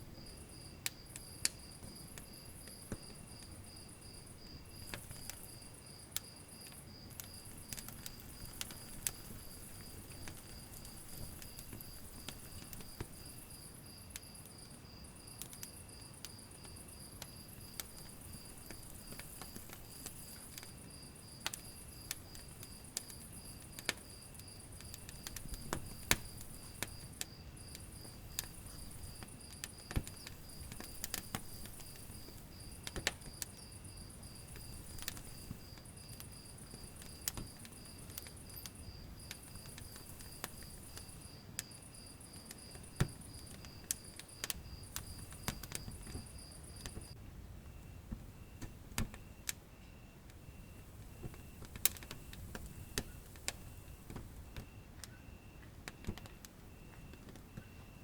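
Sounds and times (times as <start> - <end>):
low rumble of flame: 0.0 - 58.0
wood fire crackling and popping: 0.0 - 58.0.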